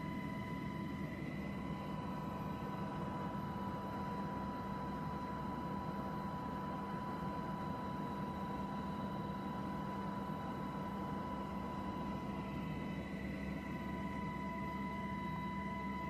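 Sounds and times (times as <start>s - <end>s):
aircraft engine drone: 0.0s - 16.0s
steady high whine: 0.0s - 16.0s.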